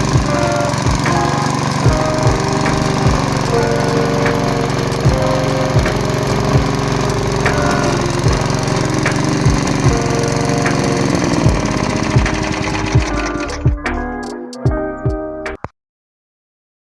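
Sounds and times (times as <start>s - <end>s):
lawnmower engine running: 0.0s - 13.7s.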